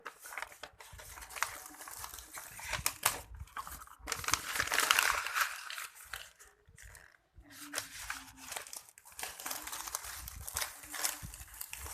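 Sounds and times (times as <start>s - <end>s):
packaging crinkling: 0.0s - 11.9s.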